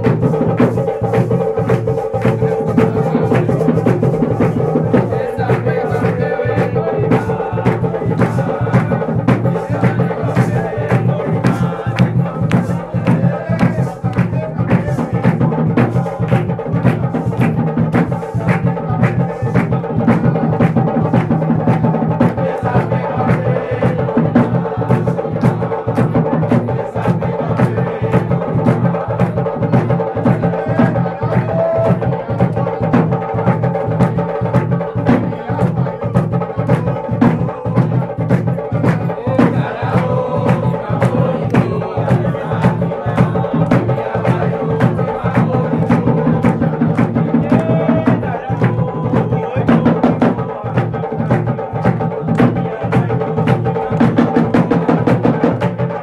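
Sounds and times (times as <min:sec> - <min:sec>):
chanted vocals: 0:00.0 - 0:56.0
fast drumming: 0:00.0 - 0:56.0.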